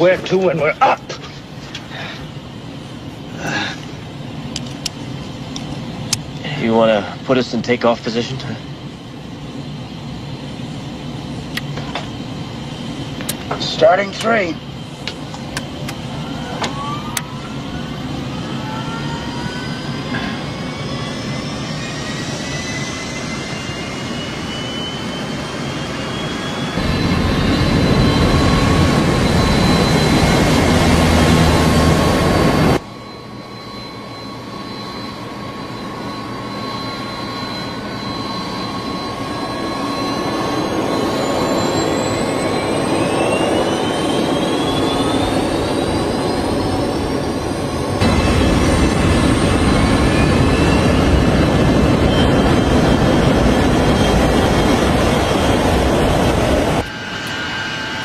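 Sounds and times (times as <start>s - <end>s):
jet engines spooling up: 0.0s - 58.0s
steady turbine whine: 0.0s - 58.0s.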